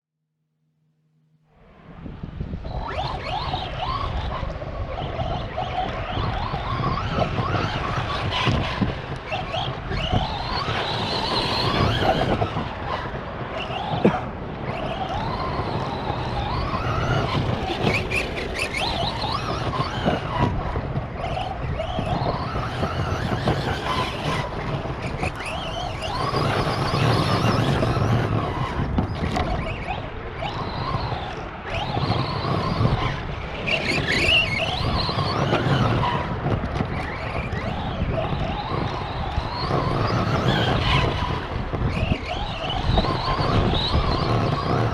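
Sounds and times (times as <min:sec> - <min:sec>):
rc truck electric motor whine: 0:02.0 - 0:44.9
tyre noise: 0:02.6 - 0:44.9.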